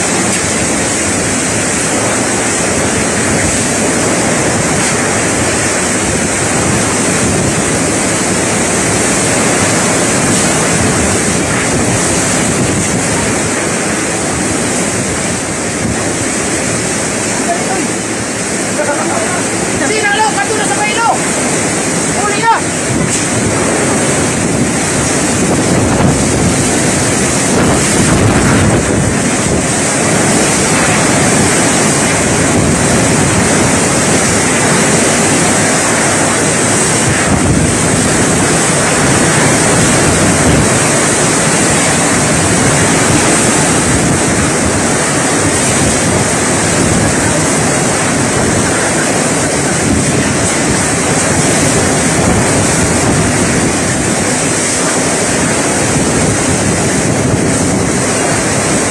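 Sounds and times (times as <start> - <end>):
strong wind lashing trees: 0.0 - 58.9
wind buffeting microphone: 0.0 - 58.9
wind-driven rain: 0.0 - 58.9.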